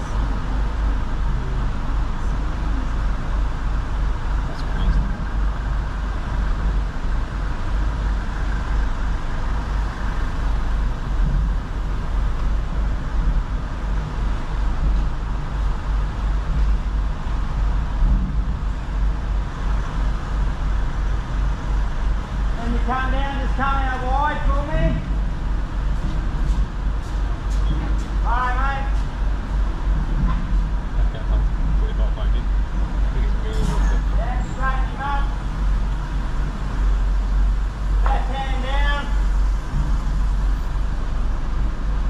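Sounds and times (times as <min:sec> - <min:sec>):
vehicle engines idling: 0:00.0 - 0:42.0.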